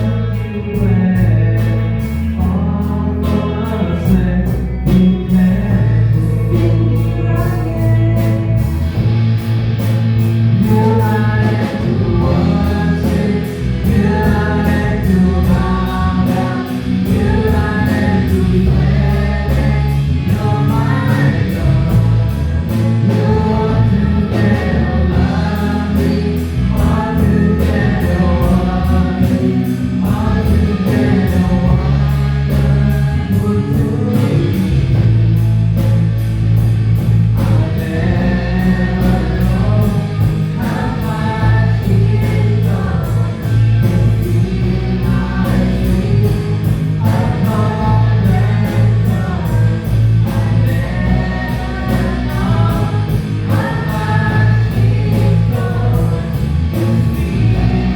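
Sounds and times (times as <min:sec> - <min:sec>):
group singing: 0:00.0 - 0:57.9
live band playing: 0:00.0 - 0:57.9.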